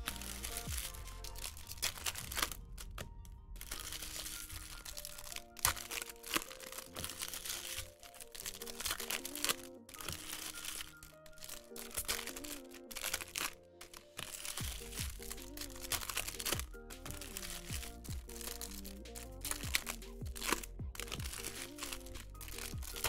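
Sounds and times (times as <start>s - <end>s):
background music: 0.0s - 23.0s
card pack wrappers crinkling: 0.0s - 23.0s.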